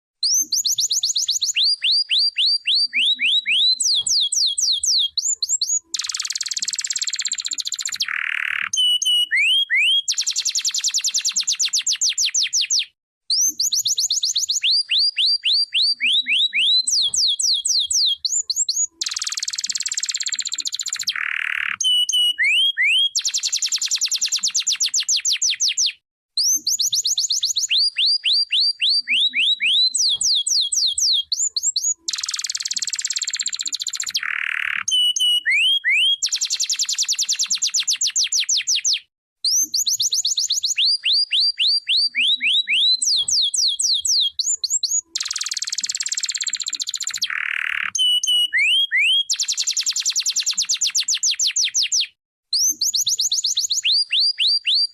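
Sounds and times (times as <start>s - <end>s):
canary singing: 0.2s - 54.9s.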